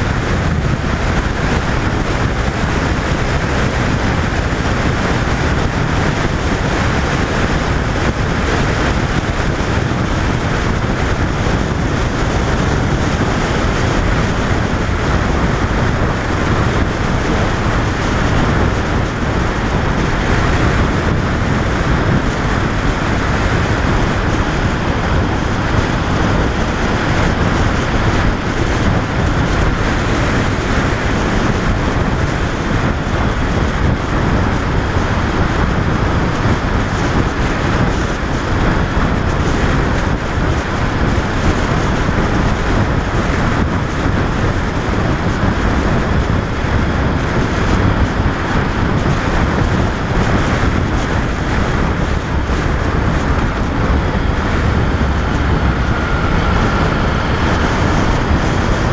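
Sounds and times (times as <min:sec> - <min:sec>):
motorcycle running noise: 0:00.0 - 0:58.9
wind rush on microphone: 0:00.0 - 0:58.9.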